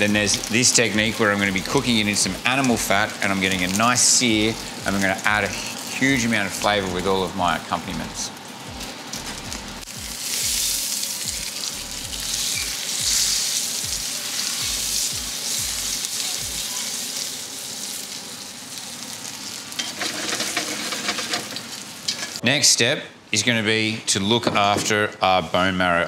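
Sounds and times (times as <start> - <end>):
steak sizzling in frying pan: 0.0 - 22.4.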